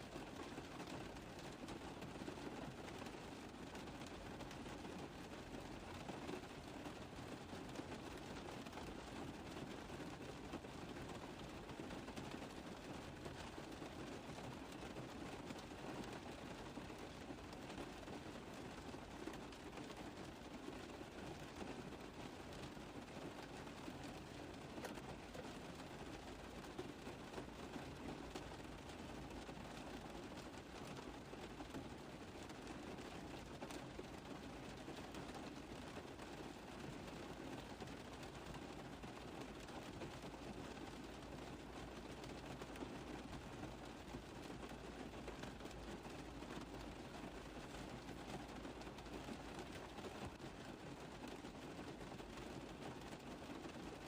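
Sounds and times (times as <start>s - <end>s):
rain tapping on a car roof: 0.0s - 54.0s.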